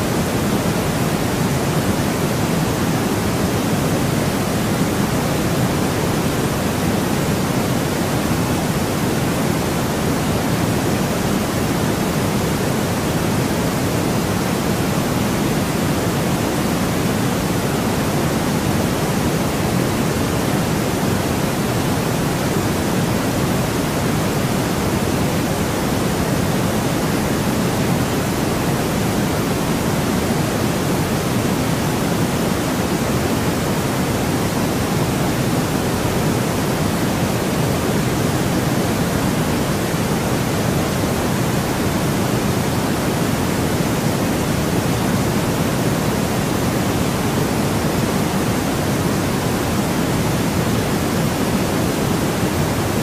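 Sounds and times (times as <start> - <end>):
steady white noise: 0.0 - 53.0.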